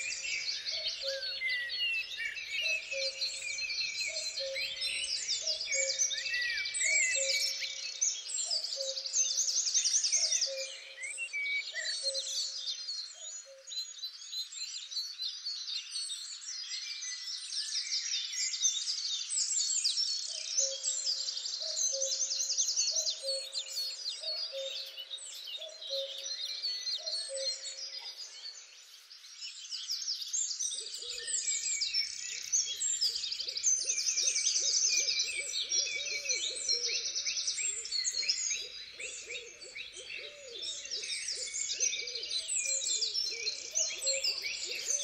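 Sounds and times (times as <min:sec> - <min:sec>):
songbirds chirping and trilling: 0:00.0 - 0:45.0.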